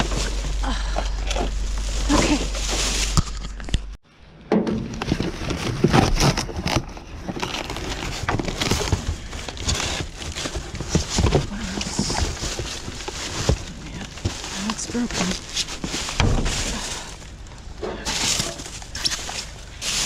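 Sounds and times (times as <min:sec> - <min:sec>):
plastic bags rustling: 0:00.0 - 0:04.0, 0:04.8 - 0:20.0.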